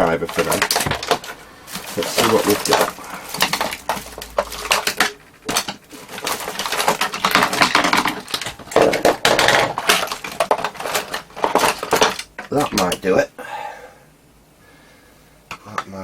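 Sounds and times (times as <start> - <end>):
hand tools clattering: 0.0 - 13.1.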